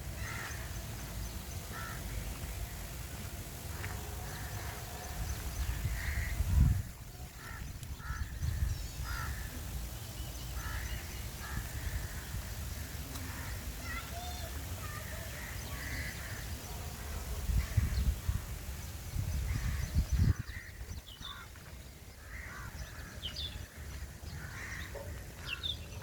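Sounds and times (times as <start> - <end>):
birds cawing and chirping: 0.1 - 2.6, 3.7 - 26.0.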